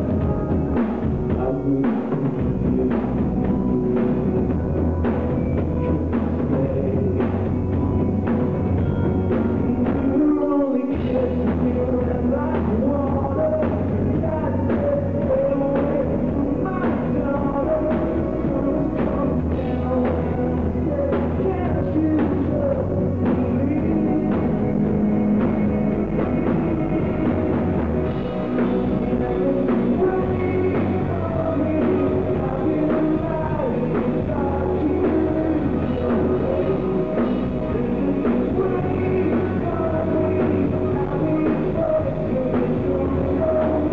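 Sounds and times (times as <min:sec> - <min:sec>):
live rock band: 0:00.0 - 0:43.9
man singing into microphone: 0:00.0 - 0:43.9.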